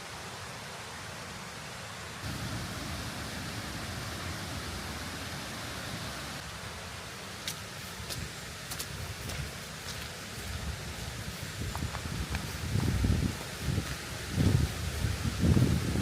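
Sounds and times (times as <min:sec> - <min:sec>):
rushing water hiss: 0:00.0 - 0:16.0.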